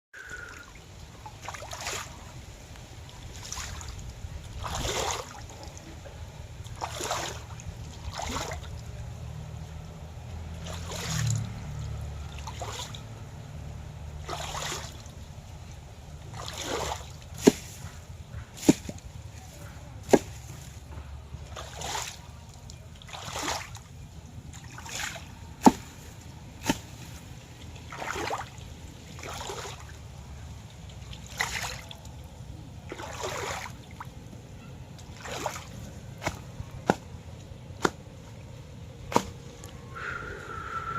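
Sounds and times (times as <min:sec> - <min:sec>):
water splashing and dripping: 0:00.2 - 0:19.3, 0:21.4 - 0:34.3, 0:34.9 - 0:39.8
low steady hum: 0:00.2 - 0:40.9.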